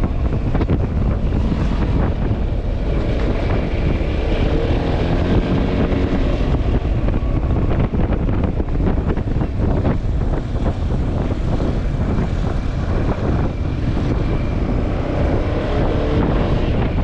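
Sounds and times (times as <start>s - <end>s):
scooter engine and tyres droning: 0.0s - 17.0s
wind buffeting microphone: 0.0s - 17.0s.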